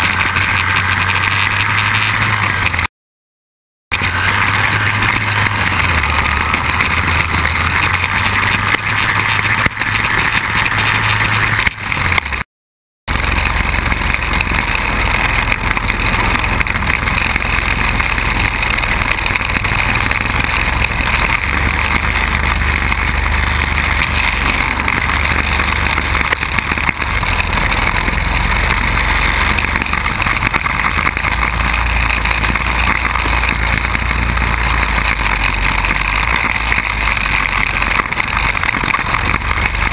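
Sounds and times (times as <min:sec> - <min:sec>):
quad bike engine running: 0:00.0 - 0:02.9, 0:03.9 - 0:12.5, 0:13.1 - 0:39.9
wind noise on microphone: 0:00.0 - 0:02.9, 0:03.9 - 0:12.5, 0:13.1 - 0:39.9.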